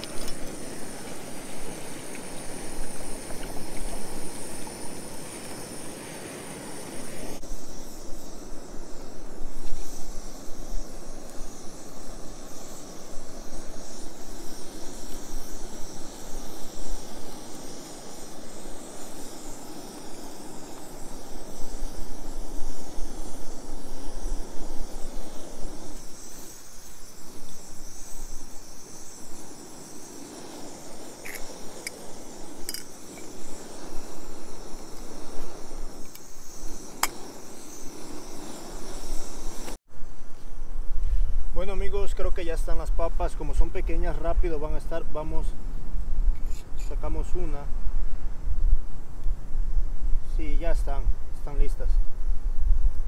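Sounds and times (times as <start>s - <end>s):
camp stove burning: 0.0s - 53.0s.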